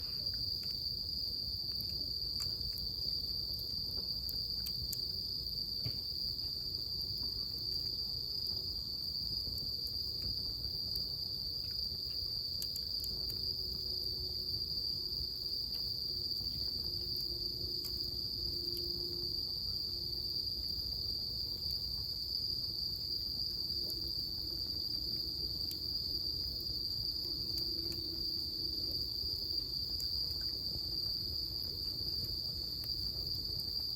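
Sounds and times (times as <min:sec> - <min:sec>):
bonfire crackling: 0:00.0 - 0:33.9
crickets trilling: 0:00.0 - 0:33.9.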